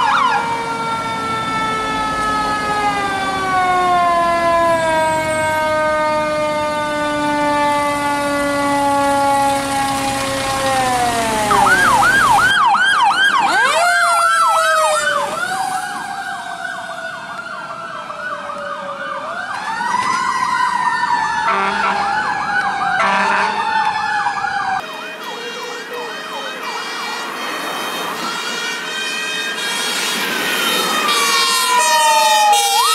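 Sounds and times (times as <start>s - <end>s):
fire truck siren wailing: 0.0s - 32.9s
siren yelping sweeps: 0.0s - 32.9s.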